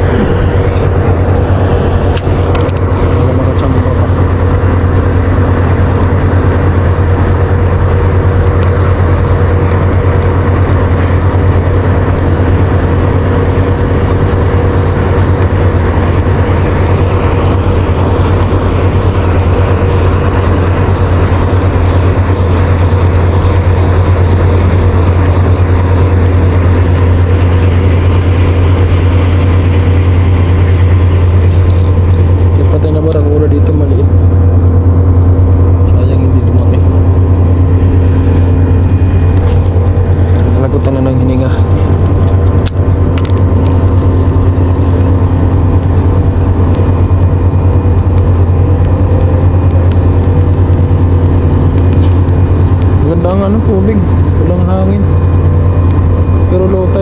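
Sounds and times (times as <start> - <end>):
faint higher hums: 0.0 - 57.0
low machine drone: 0.0 - 57.0.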